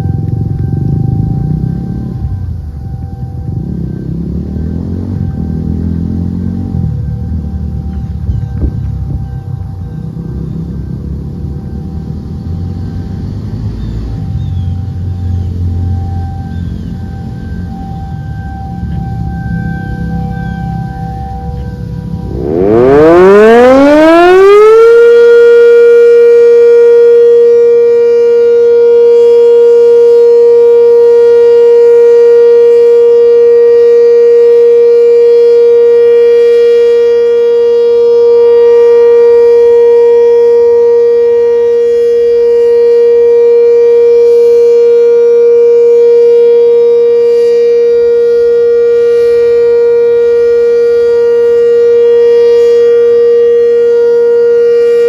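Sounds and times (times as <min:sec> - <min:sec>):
warning siren steady tone: 0:00.0 - 0:55.0.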